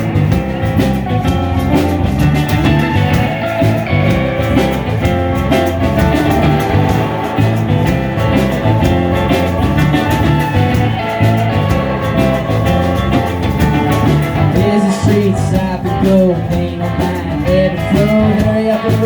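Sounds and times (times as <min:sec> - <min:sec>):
band playing instrumental: 0:00.0 - 0:19.0
drum kit beat: 0:00.0 - 0:19.0
guitar: 0:00.0 - 0:19.0.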